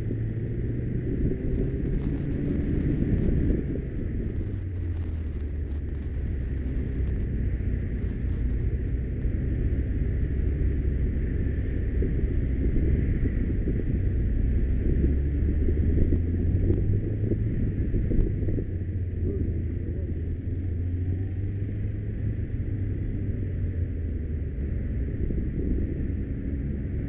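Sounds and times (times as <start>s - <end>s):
motorcycle engine running: 0.0s - 27.0s
wind rumble on microphone: 0.0s - 27.0s.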